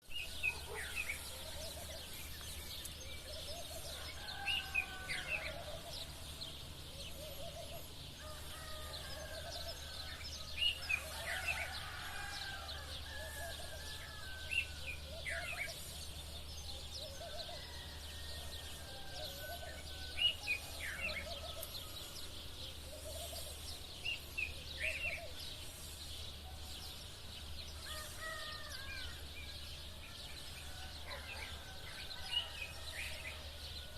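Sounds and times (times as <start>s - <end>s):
distant roosters crowing: 0.0s - 33.9s
sparrows chirping: 0.0s - 33.9s.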